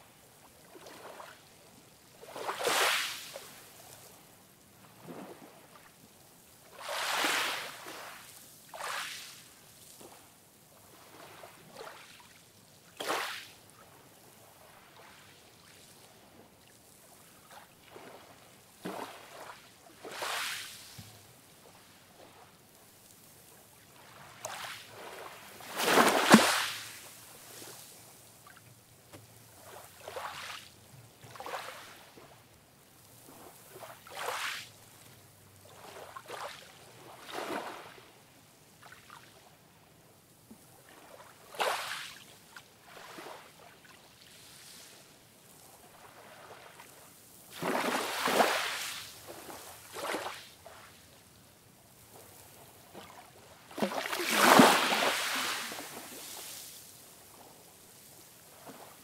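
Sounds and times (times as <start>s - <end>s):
waves washing up a beach: 0.0s - 59.0s.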